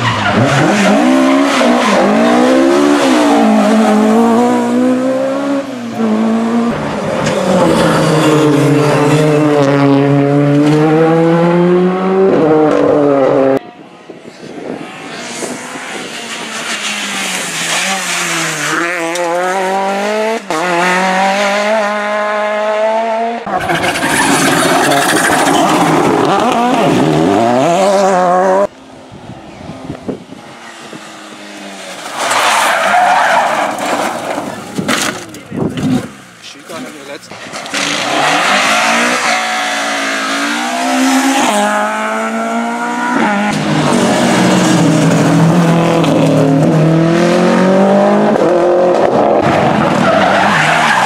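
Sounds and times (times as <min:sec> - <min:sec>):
rally car engines at full throttle: 0:00.0 - 0:51.0.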